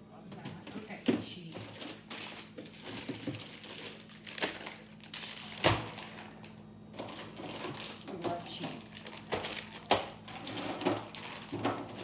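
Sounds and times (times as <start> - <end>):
plastic food packaging rustling: 0.6 - 12.0.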